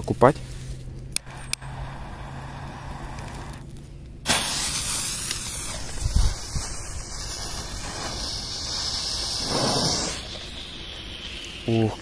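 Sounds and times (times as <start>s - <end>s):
smoke bomb hissing: 1.2s - 12.0s.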